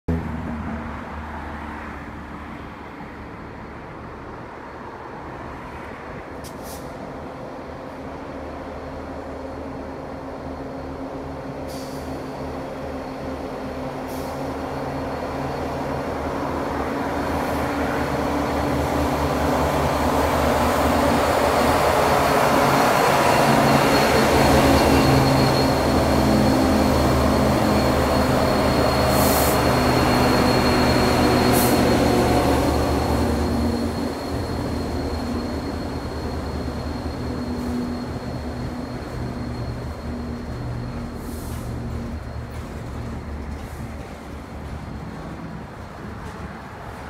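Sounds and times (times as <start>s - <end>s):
locomotive engines droning: 2.8s - 47.0s.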